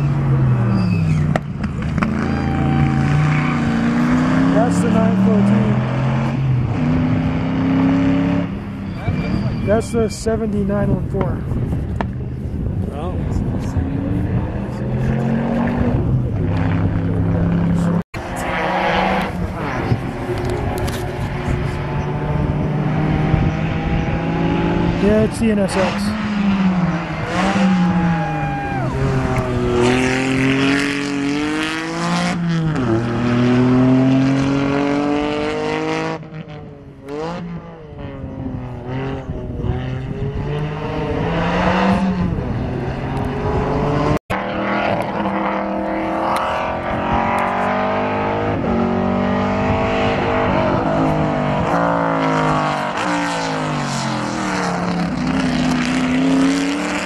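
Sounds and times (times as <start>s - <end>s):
race car accelerating: 0.0s - 57.0s.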